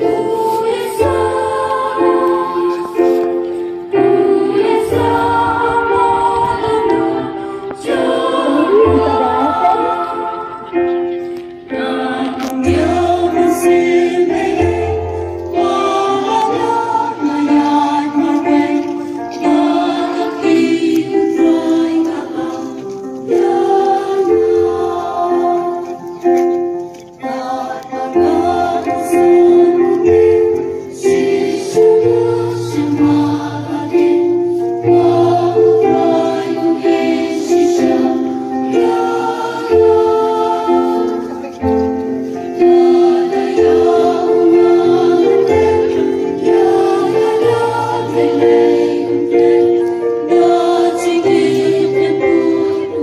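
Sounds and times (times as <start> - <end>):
choir singing: 0.0 - 53.0
instrumental accompaniment: 0.0 - 53.0.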